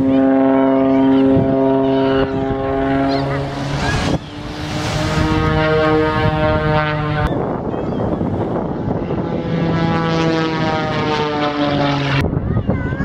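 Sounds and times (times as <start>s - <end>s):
propeller plane engine drone: 0.0s - 12.4s.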